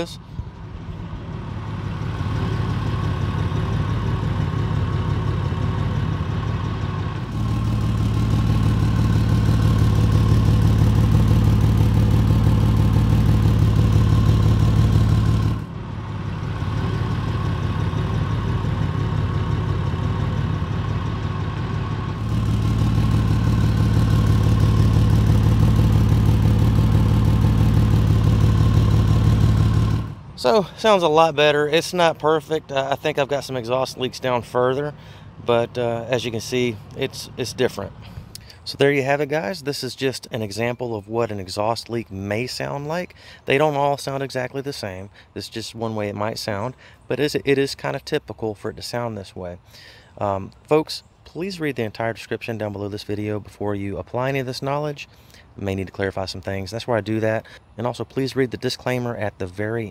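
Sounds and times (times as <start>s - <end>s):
engine and exhaust running: 0.0s - 59.9s.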